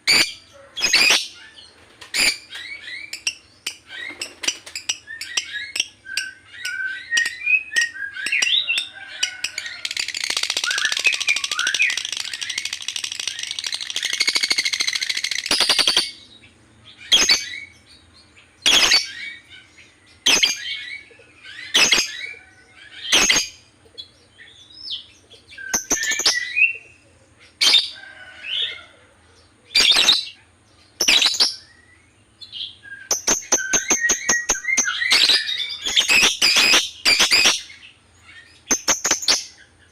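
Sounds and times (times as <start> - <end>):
lovebird chirping and chattering: 0.0 - 28.0, 29.4 - 39.9.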